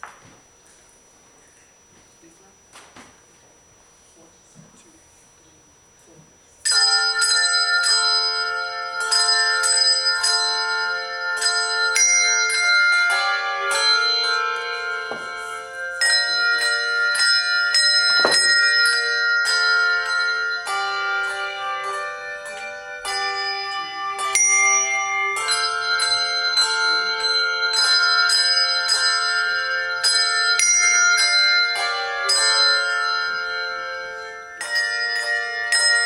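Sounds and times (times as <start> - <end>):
handbell chords ringing: 6.6 - 36.0.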